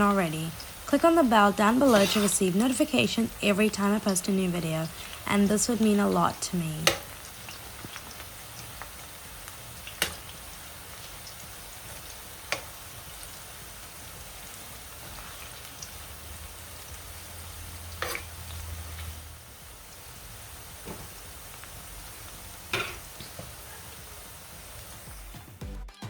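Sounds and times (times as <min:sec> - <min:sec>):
food sizzling in hot oil: 0:00.0 - 0:25.5.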